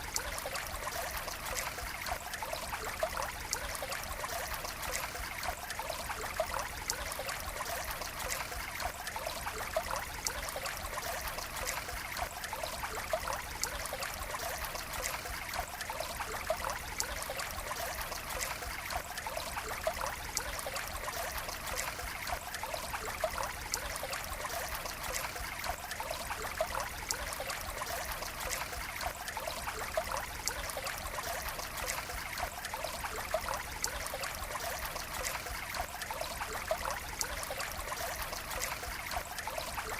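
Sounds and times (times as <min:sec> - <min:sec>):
water running and trickling: 0:00.0 - 0:39.9
water splashes and drips: 0:00.0 - 0:39.9.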